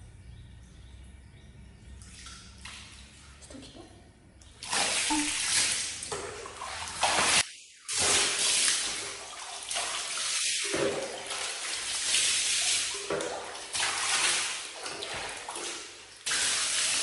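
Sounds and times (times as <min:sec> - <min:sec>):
water splashing and pouring: 0:02.0 - 0:03.4, 0:04.5 - 0:17.0.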